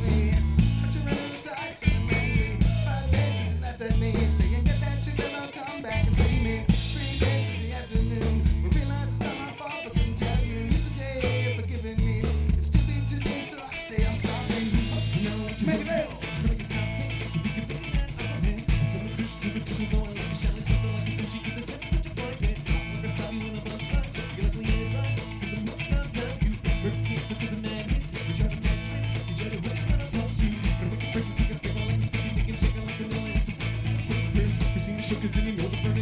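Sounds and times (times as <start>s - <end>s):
bass guitar: 0.0s - 36.0s
drum kit beat: 0.0s - 36.0s
electric guitars: 0.0s - 36.0s.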